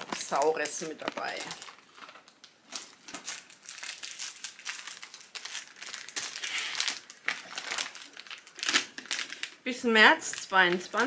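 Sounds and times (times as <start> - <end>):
food packaging crinkling: 0.0 - 11.0.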